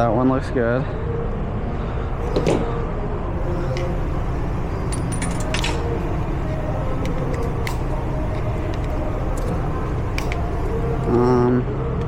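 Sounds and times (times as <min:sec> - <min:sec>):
shop background drone: 0:00.0 - 0:12.0.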